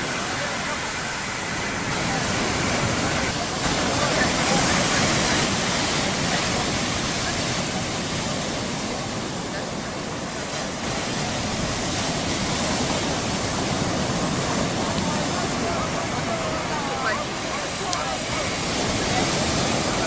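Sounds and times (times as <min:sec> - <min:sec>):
surf washing onto beach: 0:00.0 - 0:20.0.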